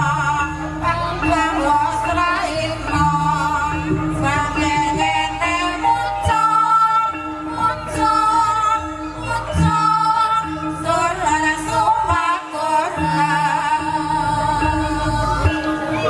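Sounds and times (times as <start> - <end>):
ringing metallophone tones: 0.0 - 16.0
woman singing: 0.0 - 16.0.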